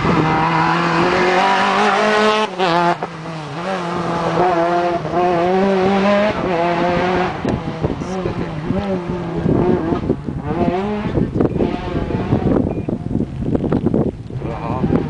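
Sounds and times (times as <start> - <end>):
rally car engine at high revs: 0.0 - 13.2, 14.3 - 15.0.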